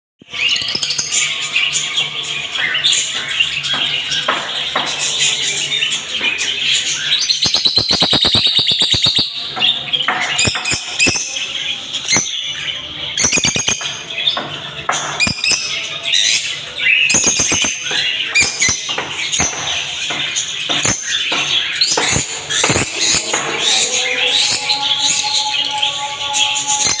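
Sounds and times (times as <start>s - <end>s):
budgerigars chattering: 0.3s - 26.2s.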